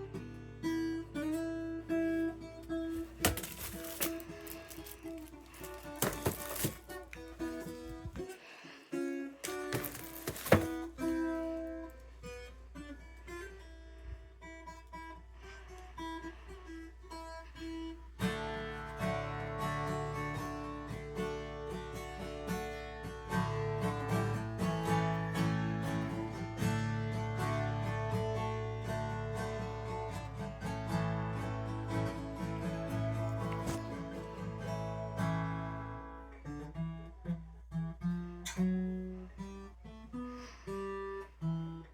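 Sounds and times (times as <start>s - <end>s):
acoustic guitar plucked notes: 0.0s - 15.2s, 17.6s - 41.9s
acoustic guitar strummed chords: 0.0s - 41.9s.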